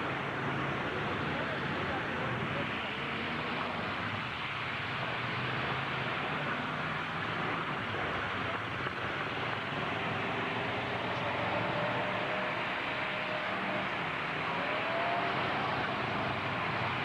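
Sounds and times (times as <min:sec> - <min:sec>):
truck engines running: 0:00.0 - 0:17.0.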